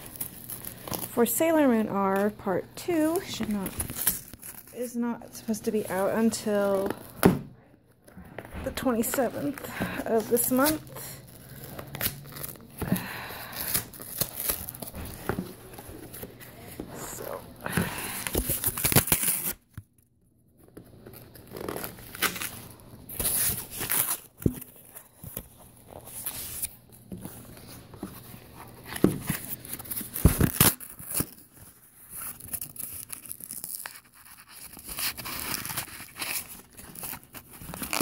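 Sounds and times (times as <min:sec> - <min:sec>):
paper packaging tearing and crinkling: 0:00.0 - 0:07.3, 0:08.7 - 0:19.8, 0:20.8 - 0:38.0.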